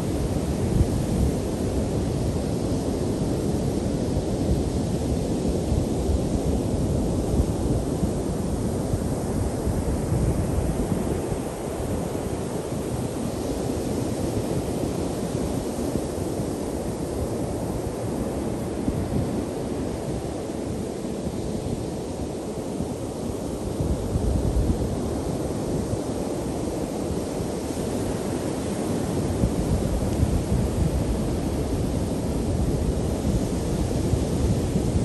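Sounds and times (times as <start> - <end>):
wind buffeting microphone: 0.0 - 17.6, 23.6 - 35.0.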